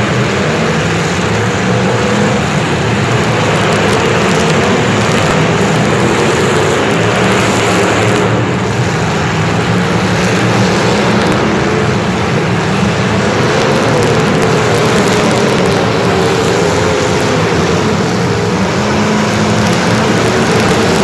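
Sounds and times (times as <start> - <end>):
engine running: 0.0 - 21.0
loud rushing noise: 0.0 - 21.0.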